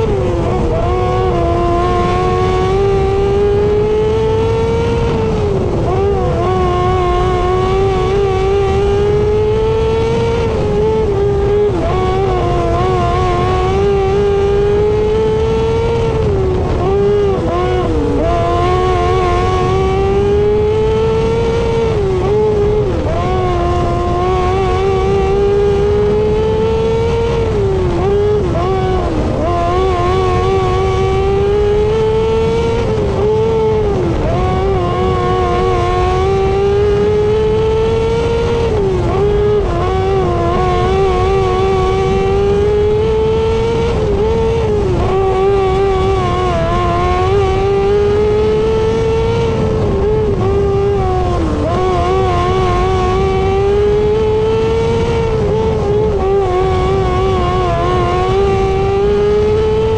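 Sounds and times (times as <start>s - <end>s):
racing engine revving: 0.0s - 59.9s.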